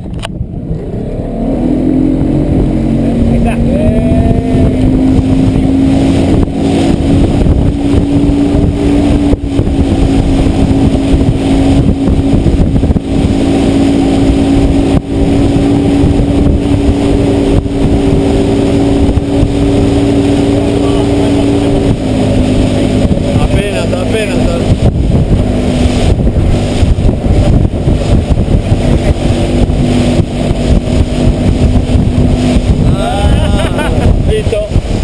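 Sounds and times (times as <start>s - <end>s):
boat wake rushing: 0.0s - 35.0s
outboard motor running: 0.0s - 35.0s
wind: 0.0s - 35.0s.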